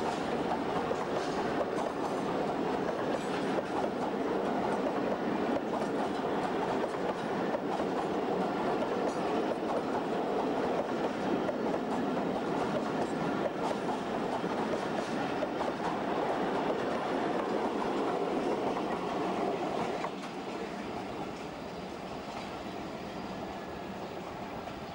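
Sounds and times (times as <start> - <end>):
train wheels running over rails: 0.0 - 24.9.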